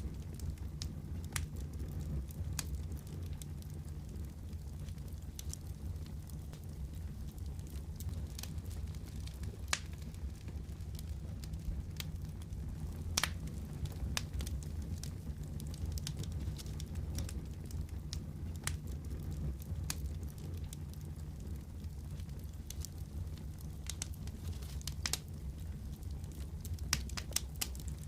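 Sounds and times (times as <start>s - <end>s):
fire popping and snapping: 0.0s - 28.0s
low fire rumble: 0.0s - 28.0s
wood fire crackling: 0.0s - 28.0s.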